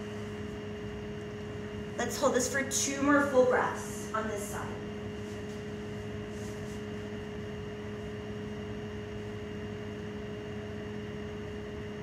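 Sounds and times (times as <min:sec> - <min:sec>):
constant two-pitch hum: 0:00.0 - 0:12.0.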